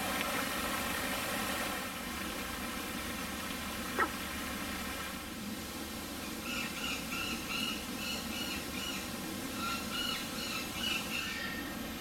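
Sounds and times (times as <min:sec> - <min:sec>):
fountain splashing: 0:00.0 - 0:10.8.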